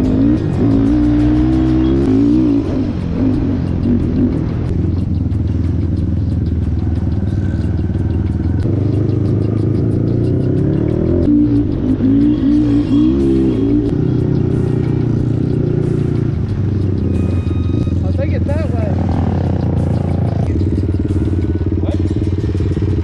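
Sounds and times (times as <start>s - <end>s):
atv engine revving: 0.0s - 23.0s
vehicle rattling over rough ground: 0.0s - 23.0s.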